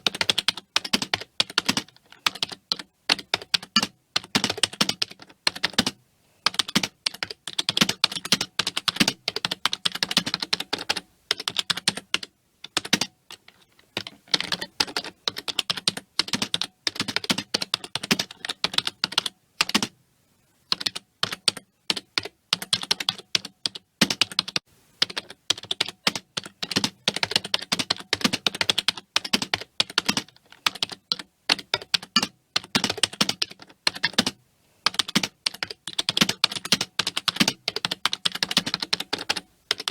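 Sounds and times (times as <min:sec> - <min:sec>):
computer keyboard typing: 0:00.0 - 0:19.9, 0:20.7 - 0:39.9.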